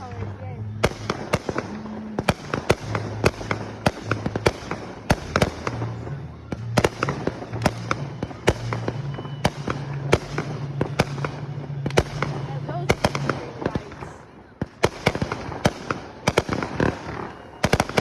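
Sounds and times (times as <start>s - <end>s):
fireworks banging: 0.0s - 18.0s.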